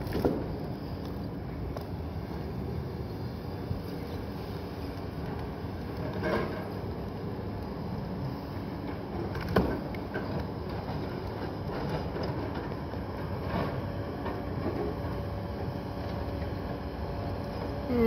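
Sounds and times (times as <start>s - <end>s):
thin steady whine: 0.0s - 11.9s, 12.6s - 18.0s
log loader diesel engines: 0.0s - 18.0s.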